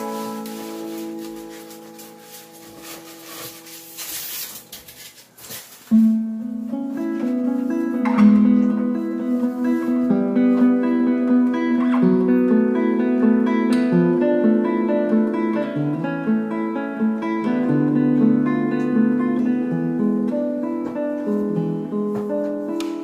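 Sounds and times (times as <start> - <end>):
plucked acoustic guitar: 0.0 - 5.2, 5.8 - 23.0.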